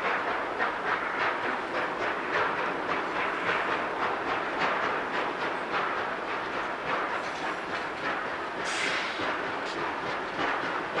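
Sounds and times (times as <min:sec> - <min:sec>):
distant steam locomotive chuffing: 0:00.0 - 0:11.0.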